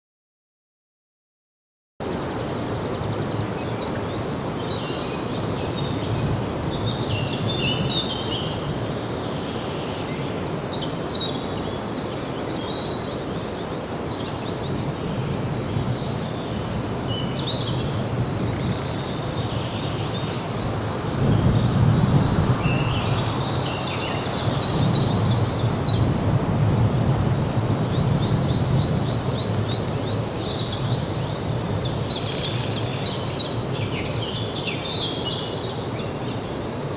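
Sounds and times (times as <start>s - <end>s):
small birds chirping: 2.7s - 36.9s.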